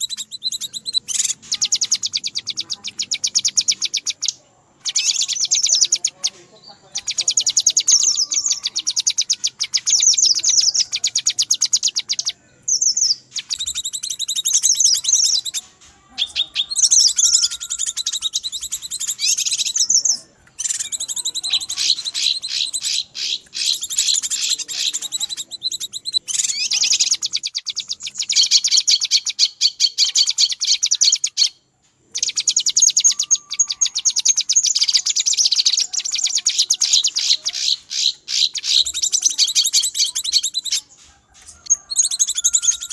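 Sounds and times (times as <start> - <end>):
bird chattering calls: 0.0 - 42.9.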